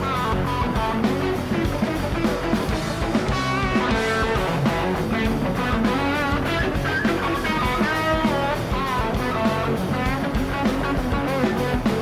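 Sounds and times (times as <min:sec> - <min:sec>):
bluesy electric guitar lead: 0:00.0 - 0:12.0
rock music bass and beat: 0:00.0 - 0:12.0.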